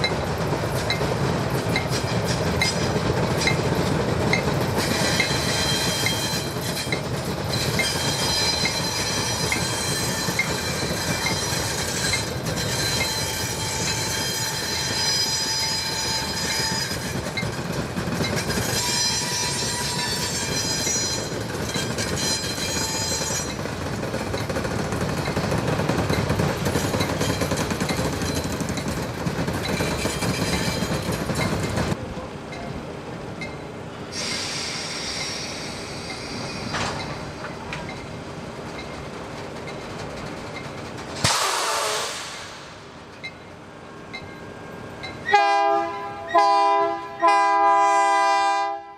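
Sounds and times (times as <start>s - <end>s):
steel wheels squealing on rail: 0.0s - 47.5s
diesel locomotive engine rumble: 0.0s - 48.9s.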